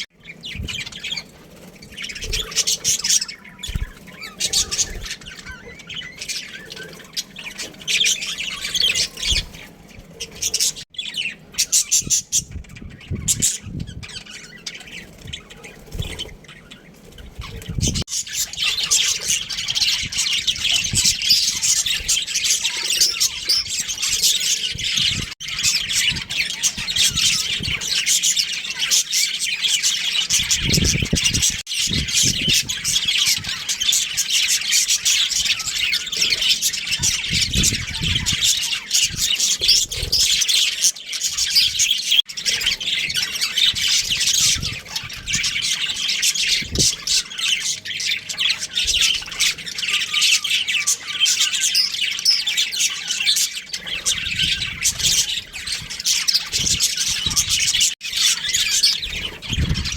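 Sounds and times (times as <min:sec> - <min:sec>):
budgerigars chirping and squawking: 0:00.0 - 0:59.9.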